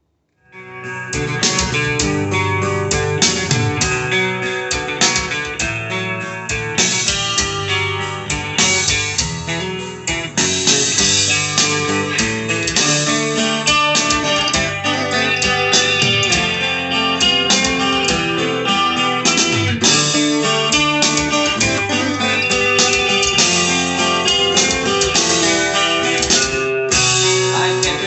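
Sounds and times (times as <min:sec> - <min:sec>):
guitar picked notes and chords: 0:00.4 - 0:28.0.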